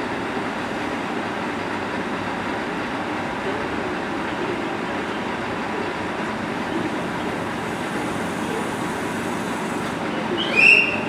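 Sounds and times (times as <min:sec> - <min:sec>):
diesel railcar idling: 0:00.0 - 0:11.0.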